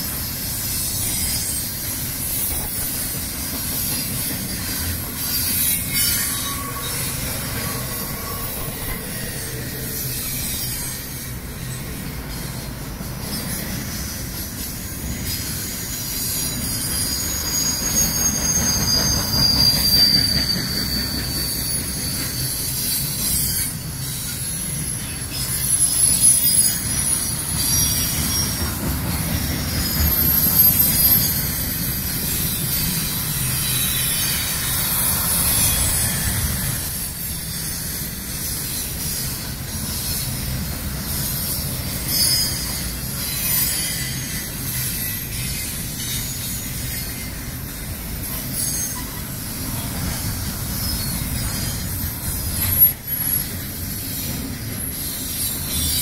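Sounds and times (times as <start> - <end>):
high-pitched wheel squeals: 0.0 - 56.0
train wheels rumbling on rails: 0.0 - 56.0.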